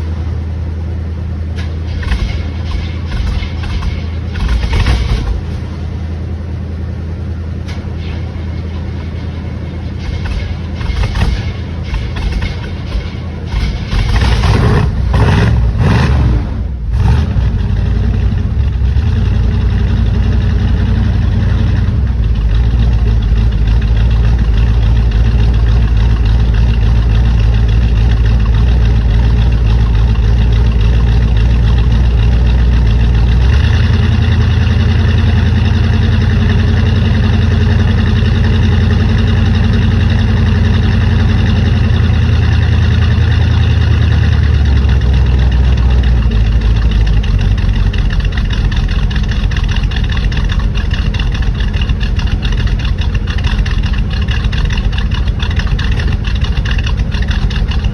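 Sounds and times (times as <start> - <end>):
car engine starting and idling: 0.0 - 57.9.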